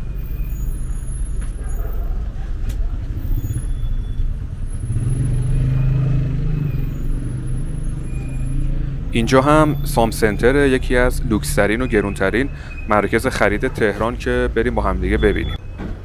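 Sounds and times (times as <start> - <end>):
cars driving past: 0.0 - 16.0
faint voices of passers-by: 0.6 - 15.6.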